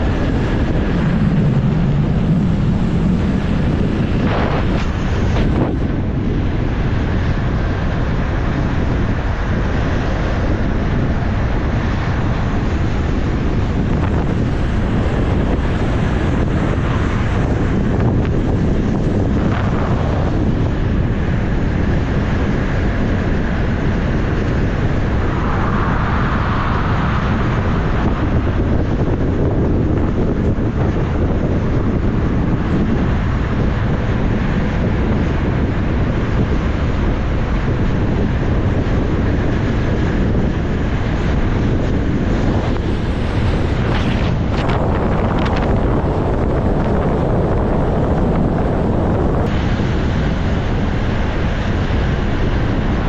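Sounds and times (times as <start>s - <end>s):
road noise: 0.0s - 53.0s
wind blasting over microphone: 0.0s - 53.0s.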